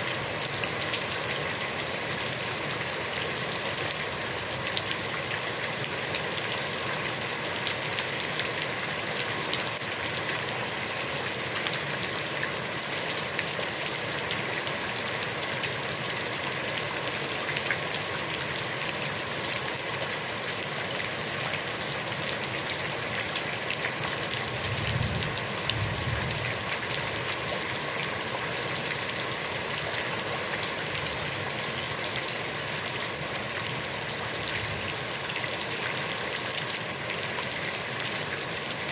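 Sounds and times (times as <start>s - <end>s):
heavy rain splashing on pond: 0.0s - 38.9s.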